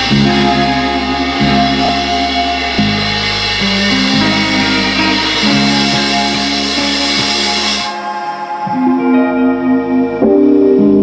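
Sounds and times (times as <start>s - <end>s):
bass long low notes: 0.0s - 11.0s
jazz band playing: 0.0s - 11.0s.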